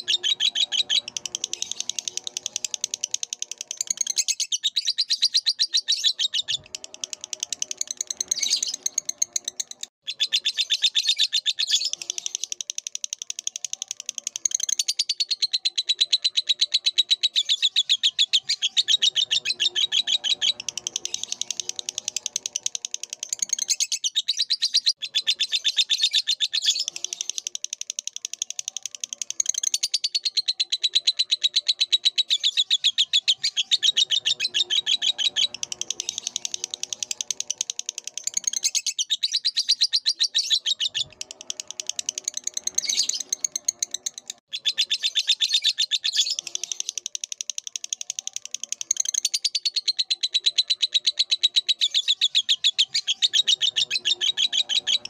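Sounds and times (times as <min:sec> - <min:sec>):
bird chattering shrill notes: 0:00.0 - 0:55.0.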